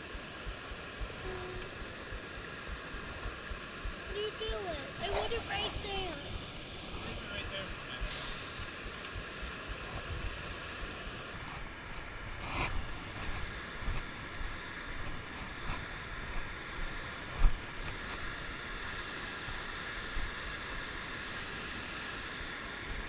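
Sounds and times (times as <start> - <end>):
outdoor rushing hiss: 0.0 - 23.0.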